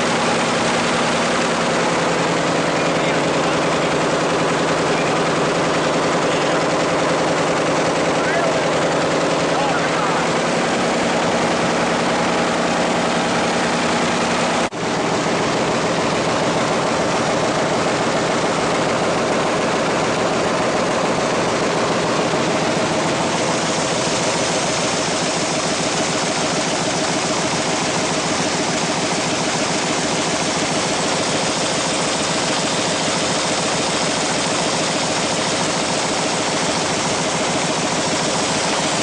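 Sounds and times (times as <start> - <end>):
fast rattle of rollers: 0.0 - 39.0
folding machine running: 0.0 - 39.0.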